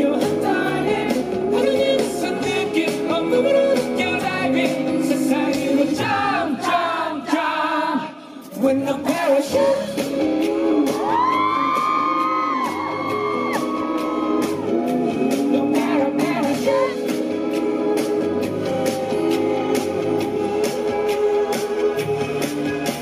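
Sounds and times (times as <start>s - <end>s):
live rock-pop band playing: 0.0s - 6.6s, 9.0s - 23.0s
man singing lead vocal: 0.0s - 23.0s.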